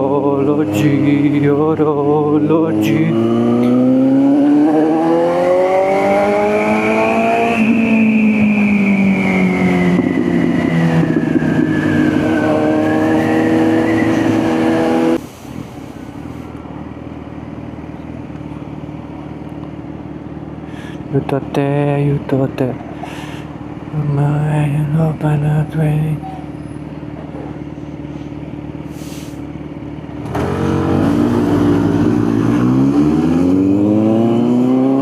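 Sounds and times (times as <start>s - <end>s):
motorcycle engine: 0.0s - 15.3s, 15.9s - 35.0s.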